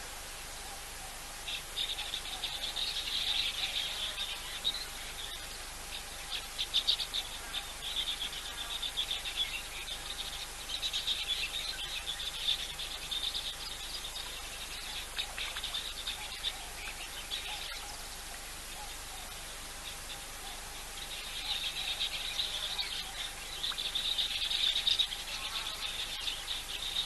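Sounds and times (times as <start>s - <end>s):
faint steady hum: 0.0s - 27.0s
insects chirring: 0.0s - 27.0s
small birds twittering: 0.0s - 27.0s.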